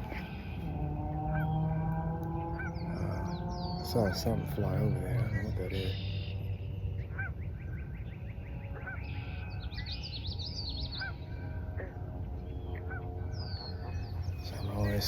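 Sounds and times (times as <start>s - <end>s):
honking bird call: 0.0s - 15.0s
steady low rumble: 0.0s - 15.0s
trilled bird song: 0.0s - 15.0s.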